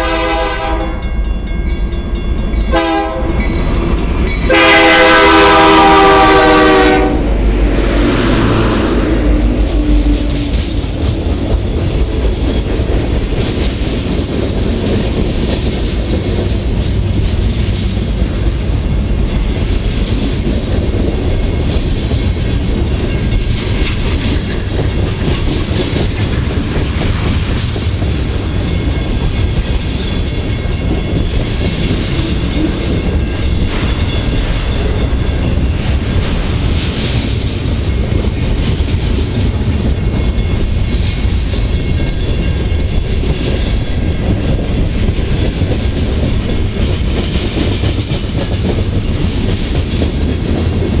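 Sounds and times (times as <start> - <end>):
freight train passing: 0.0 - 51.0
rapid clicking of train cars: 0.0 - 51.0.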